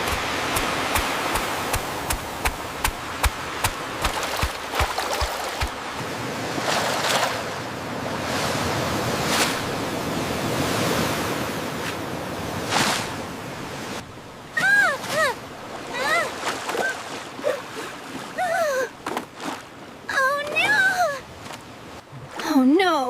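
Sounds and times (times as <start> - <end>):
ocean waves breaking: 0.0 - 22.6.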